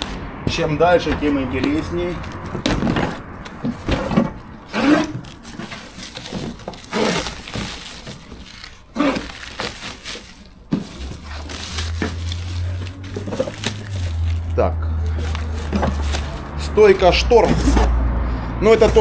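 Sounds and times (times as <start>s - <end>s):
cardboard box rustling and crunching: 0.0s - 18.0s, 18.6s - 19.0s
low steady rumble: 0.0s - 19.0s.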